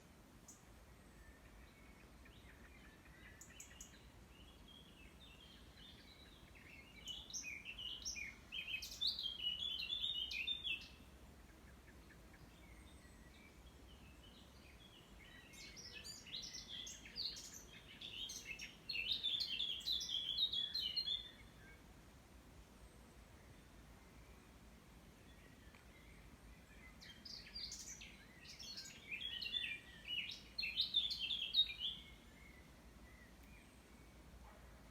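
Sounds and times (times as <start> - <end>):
songbird singing rapid phrases: 0.5 - 21.8, 25.1 - 34.4.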